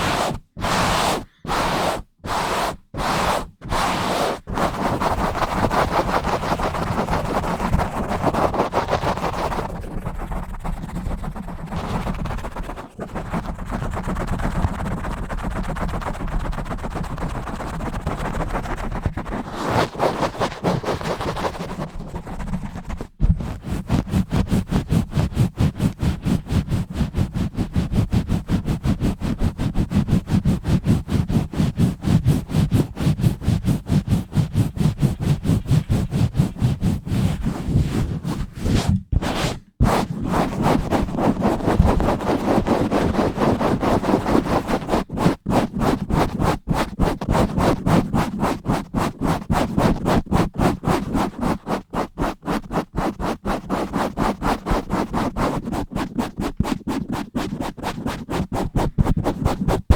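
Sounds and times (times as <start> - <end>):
scratching on a bare microphone: 0.0 - 59.9.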